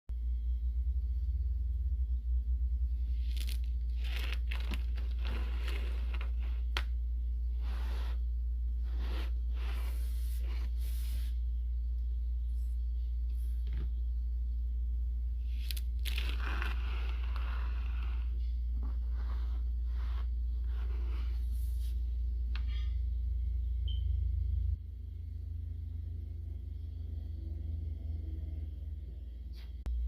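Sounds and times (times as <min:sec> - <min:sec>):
steady low hum: 0:00.1 - 0:30.0.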